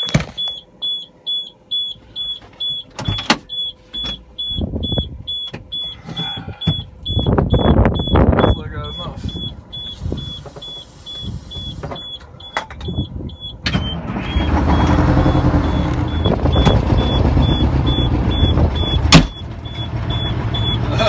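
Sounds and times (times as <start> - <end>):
diesel engine starting and running: 0.0 - 21.0
high warning beeps: 0.4 - 21.0.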